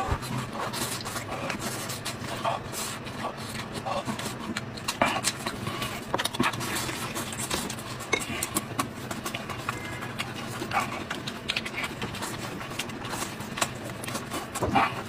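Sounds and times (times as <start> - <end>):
meat tearing: 0.2 - 15.0
wet chewing and lip smacks: 0.4 - 15.0.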